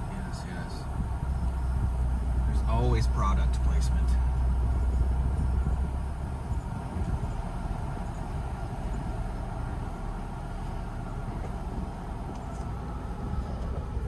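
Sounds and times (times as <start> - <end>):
engine and tyres rumbling: 0.0 - 14.0.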